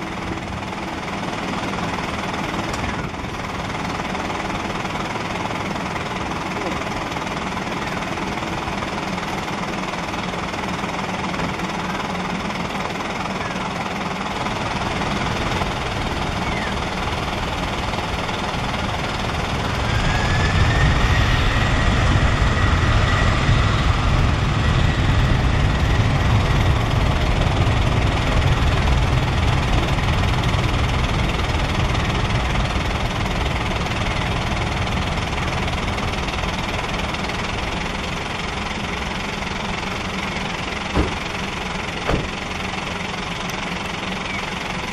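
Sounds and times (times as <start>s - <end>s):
jet engines at takeoff power: 0.0s - 44.9s.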